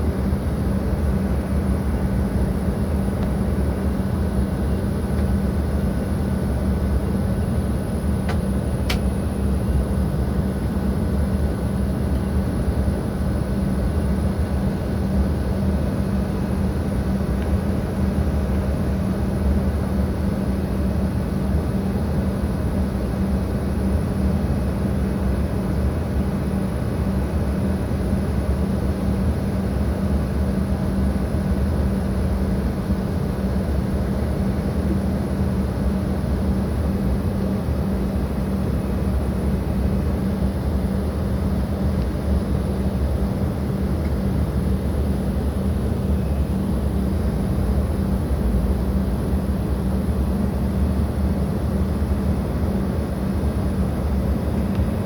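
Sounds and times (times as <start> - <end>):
jet airliner drone: 0.0 - 55.0.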